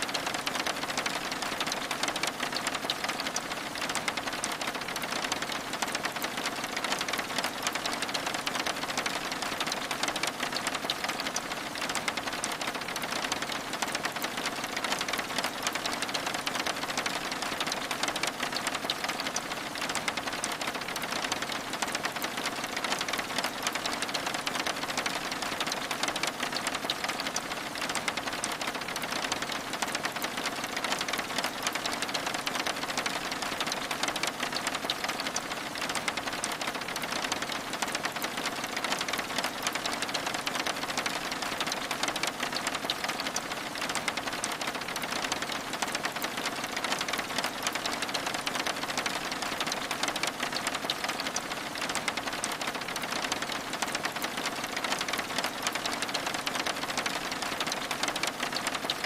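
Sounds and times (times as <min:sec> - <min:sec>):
rain on window glass: 0:00.0 - 0:59.0.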